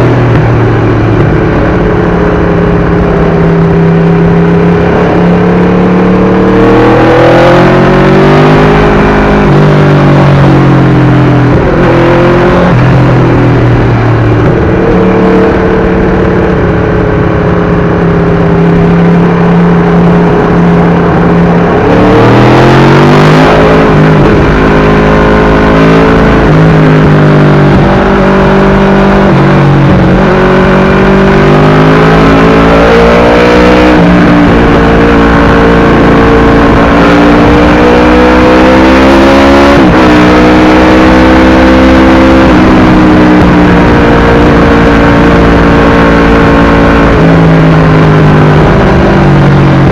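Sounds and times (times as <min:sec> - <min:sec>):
loud motorcycle engine revving: 0:00.0 - 0:49.9.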